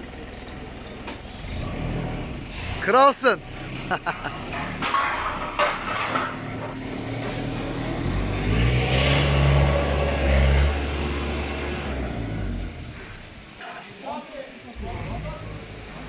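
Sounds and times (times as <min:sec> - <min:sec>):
heavy vehicle engine revving: 0:00.0 - 0:13.6, 0:14.8 - 0:16.0.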